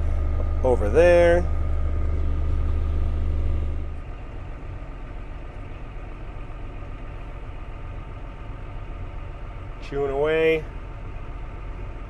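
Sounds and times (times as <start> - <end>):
deep low hum: 0.0 - 9.8
farm vehicle engine drone: 0.0 - 12.0.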